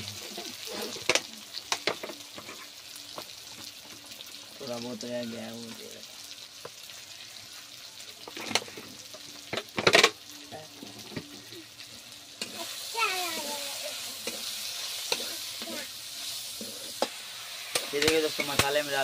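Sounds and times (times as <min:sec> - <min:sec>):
oil sizzling: 0:00.0 - 0:19.0.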